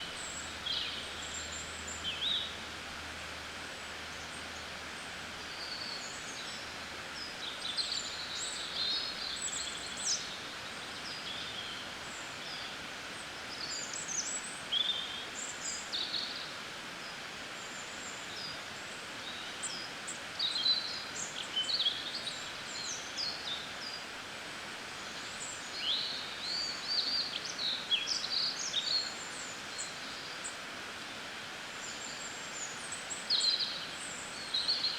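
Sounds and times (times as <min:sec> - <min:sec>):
flowing river water: 0:00.0 - 0:34.9.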